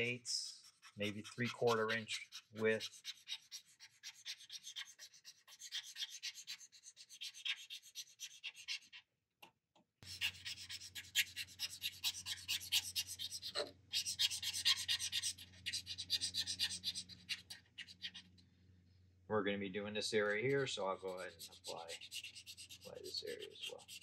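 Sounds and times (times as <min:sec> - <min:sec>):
felt tip pen scratching on plastic: 0:00.0 - 0:09.0, 0:10.0 - 0:18.3, 0:20.2 - 0:24.0.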